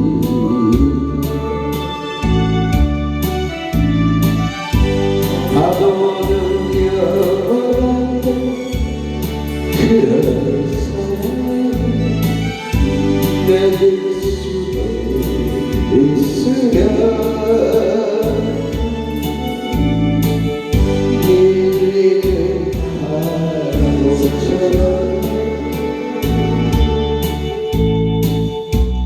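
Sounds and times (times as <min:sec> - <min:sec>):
person singing: 0:00.0 - 0:02.9, 0:04.4 - 0:28.8
keyboard chords: 0:00.0 - 0:29.0.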